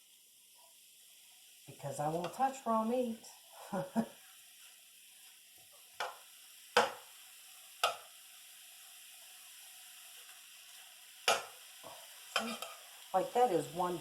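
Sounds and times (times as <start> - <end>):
beef sizzling in a pan: 0.0 - 14.0.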